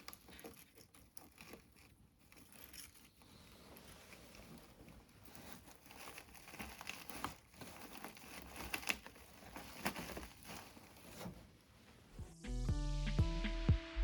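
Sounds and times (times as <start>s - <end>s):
dry model trees rustling: 0.0s - 12.2s.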